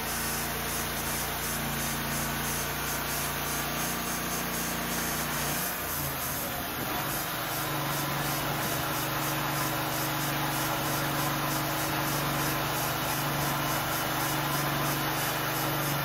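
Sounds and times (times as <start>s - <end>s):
sawmill running: 0.0s - 16.0s.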